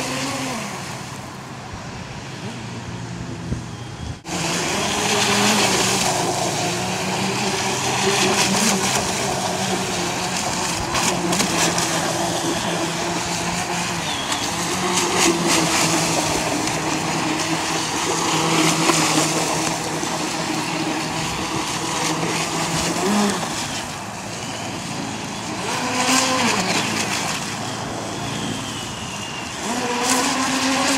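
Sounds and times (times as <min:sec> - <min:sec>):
electric boat motors whining: 0:00.0 - 0:30.9.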